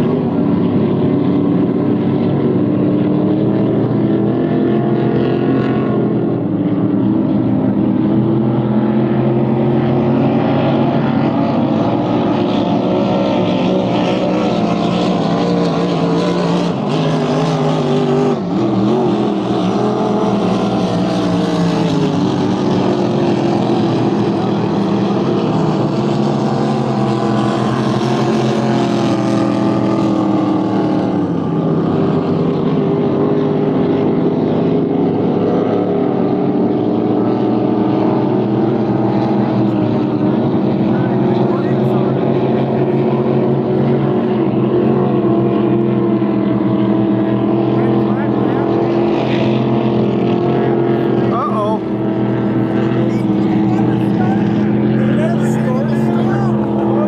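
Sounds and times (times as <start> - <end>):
powerboat engines running hard: 0.0 - 57.0.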